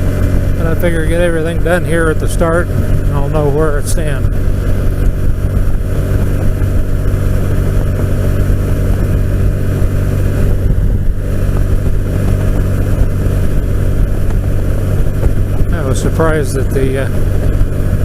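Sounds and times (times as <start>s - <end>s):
engine drone: 0.0s - 18.0s
wind noise: 0.0s - 18.0s.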